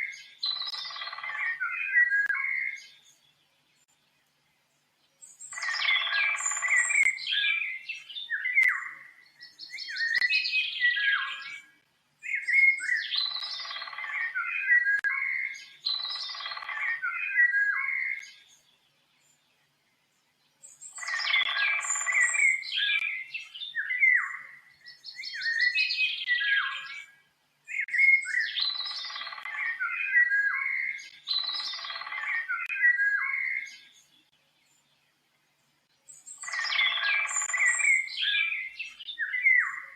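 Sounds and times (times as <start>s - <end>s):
songbird warbling: 0.0s - 3.2s, 5.2s - 18.8s, 20.6s - 34.2s, 36.1s - 39.9s.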